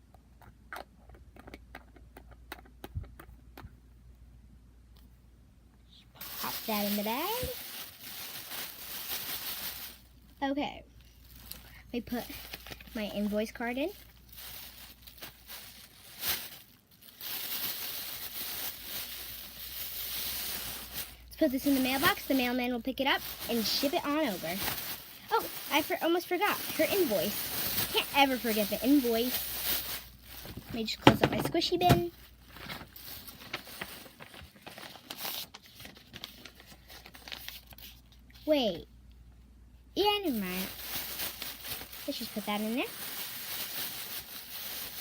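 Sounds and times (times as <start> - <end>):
plastic bag rustling: 6.2 - 10.4, 11.0 - 38.1, 40.0 - 45.0.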